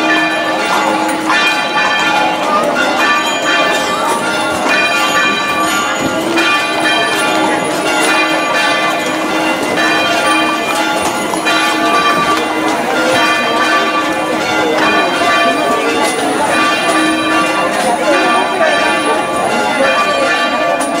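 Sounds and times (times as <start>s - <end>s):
bells pealing: 0.0s - 21.0s.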